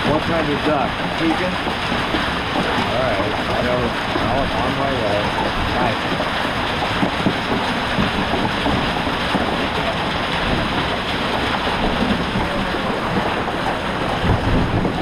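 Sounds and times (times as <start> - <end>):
hail and rain pounding a roof: 0.0 - 15.0.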